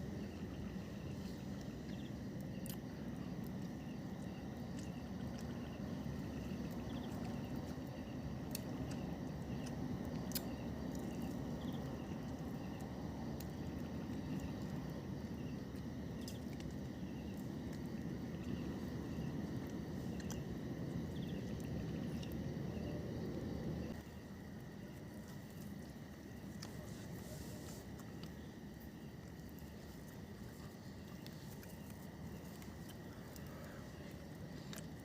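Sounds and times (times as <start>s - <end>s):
crickets chirping: 0.0s - 35.0s
low steady rumble: 0.0s - 35.0s.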